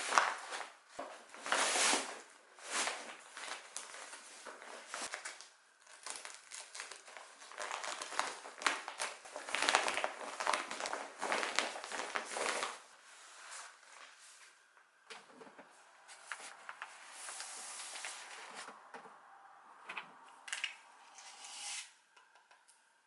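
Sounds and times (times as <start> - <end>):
crinkling and rustling: 0.0 - 19.0.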